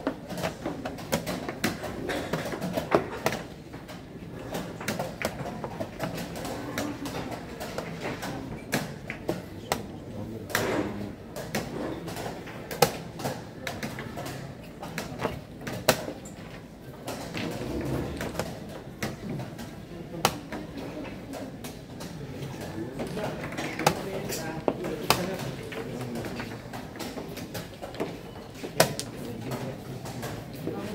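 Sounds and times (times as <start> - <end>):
murmur of voices: 0.0 - 30.9.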